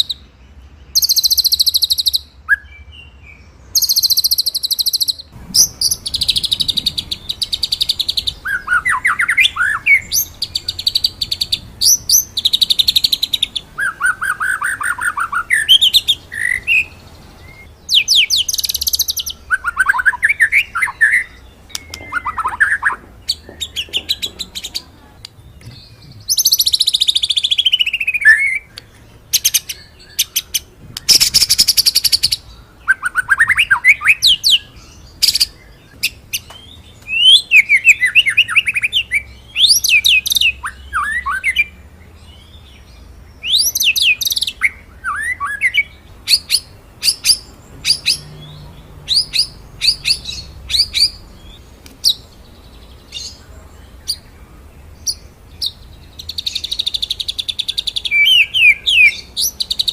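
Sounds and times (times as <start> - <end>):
songbird singing varied song: 0.0 - 59.9.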